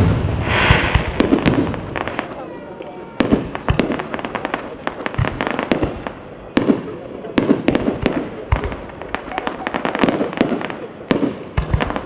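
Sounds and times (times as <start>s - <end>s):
deep fireworks booms: 0.0s - 12.0s
fireworks bangs and pops: 0.0s - 12.0s
fireworks crackling: 0.0s - 12.0s.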